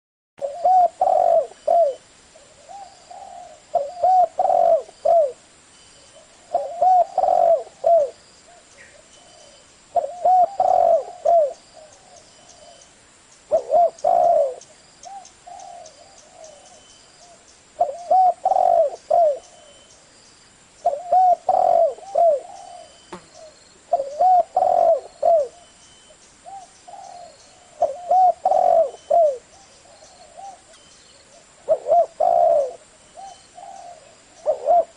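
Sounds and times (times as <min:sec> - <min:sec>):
dove cooing: 0:00.4 - 0:05.4, 0:06.1 - 0:12.8, 0:13.5 - 0:19.8, 0:20.8 - 0:25.8, 0:26.4 - 0:34.9.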